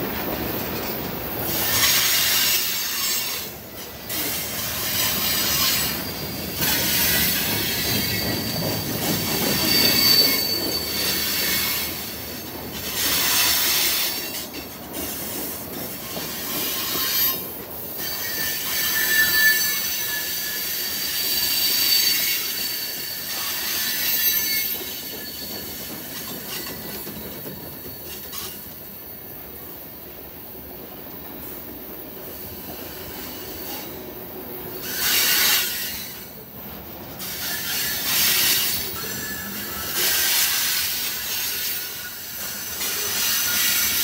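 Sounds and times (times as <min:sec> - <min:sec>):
freight cars rolling on rails: 0:00.0 - 0:44.0
steel wheels squealing: 0:01.4 - 0:29.6, 0:32.2 - 0:34.1, 0:34.7 - 0:36.4, 0:37.2 - 0:44.0.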